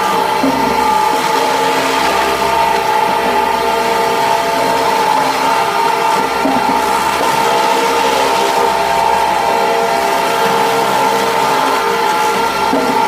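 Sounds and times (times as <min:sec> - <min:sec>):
machinery mechanical din: 0:00.0 - 0:13.0
steady machine whine: 0:00.0 - 0:13.0.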